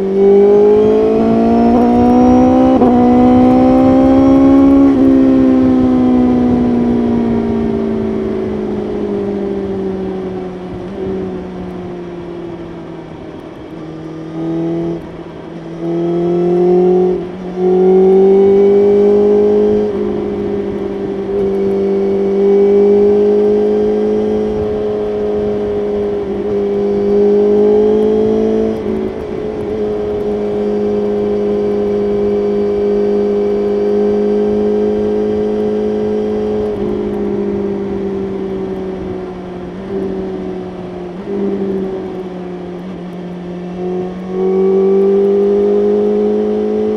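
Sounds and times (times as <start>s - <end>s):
motorcycle engine accelerating hard: 0.0s - 46.9s.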